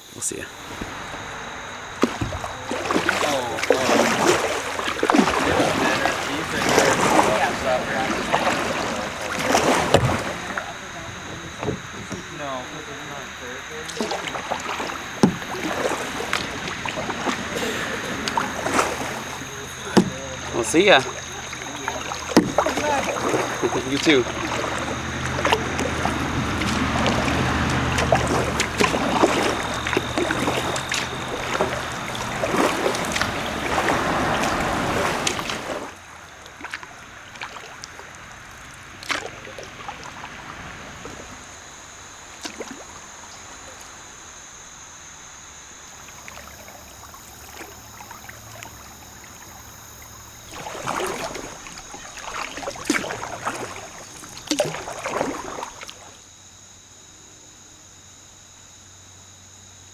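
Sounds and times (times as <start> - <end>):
paddle blades splashing: 0.0 - 57.1
water rushing along hull: 0.0 - 59.8
water drips: 0.3 - 44.0, 45.9 - 56.1.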